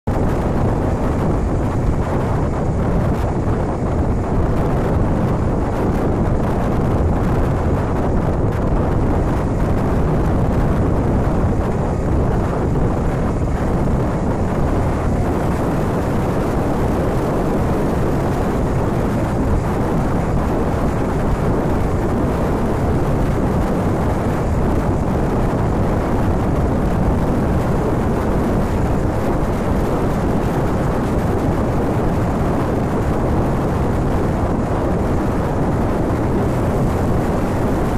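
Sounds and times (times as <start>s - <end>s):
wind rushing: 0.0s - 37.9s.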